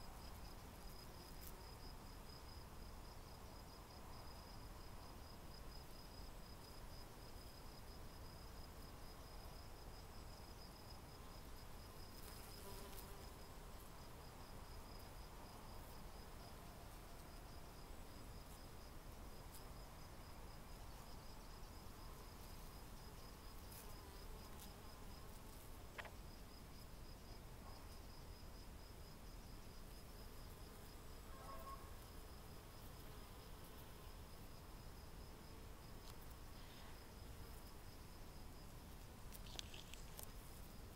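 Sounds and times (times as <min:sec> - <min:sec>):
faint buzzing of bees: 0:00.0 - 0:40.9.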